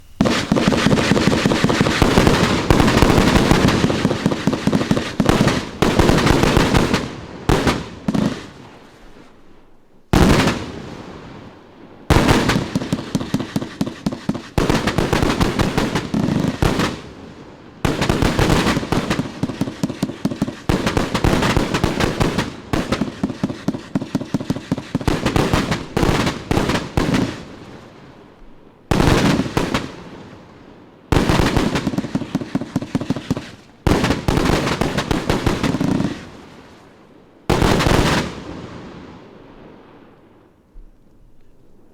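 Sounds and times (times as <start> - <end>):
fireworks firing in rapid volleys: 0.0 - 39.9.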